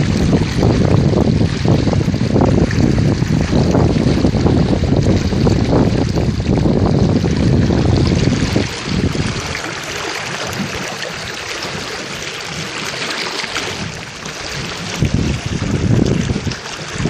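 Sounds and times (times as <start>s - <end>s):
water rushing past hull: 0.0s - 17.0s
wind buffeting microphone: 0.0s - 17.0s.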